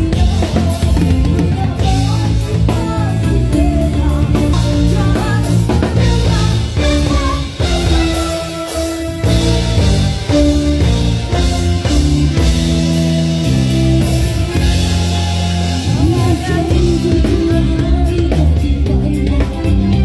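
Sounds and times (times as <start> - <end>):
person singing: 0.0 - 12.5, 15.7 - 20.0
drum kit: 0.0 - 20.0
guitar: 0.0 - 20.0.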